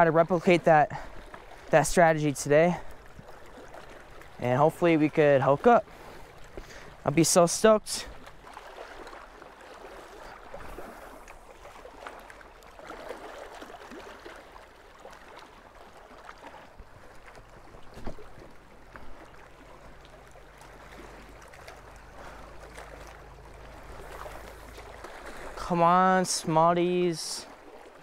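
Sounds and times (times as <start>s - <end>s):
small waves lapping on rocks: 0.0s - 28.0s.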